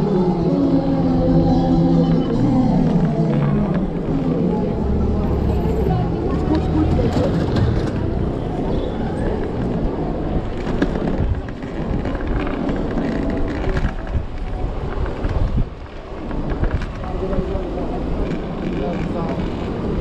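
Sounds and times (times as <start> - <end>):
wind and road rumble: 0.0 - 20.0.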